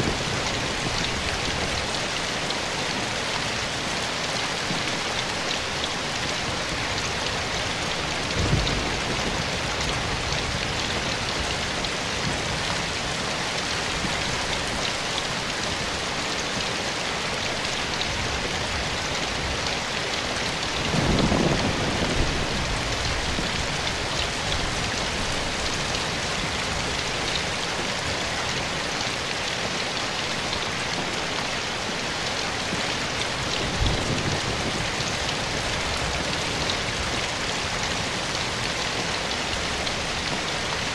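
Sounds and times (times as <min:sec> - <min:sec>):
soft rain in a forest: 0:00.0 - 0:40.9.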